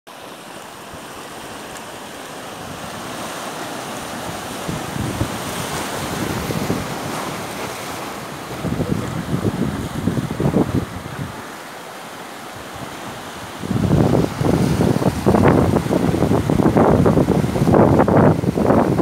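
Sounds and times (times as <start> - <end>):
surf breaking over rocks: 0.1 - 19.0
wind buffeting microphone: 2.6 - 11.6, 12.6 - 19.0.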